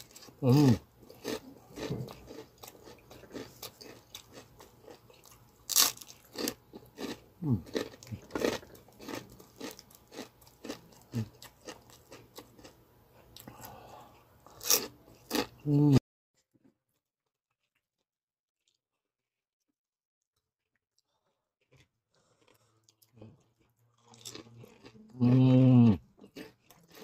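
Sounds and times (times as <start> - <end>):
chewing crispy pork rinds: 0.0 - 27.0.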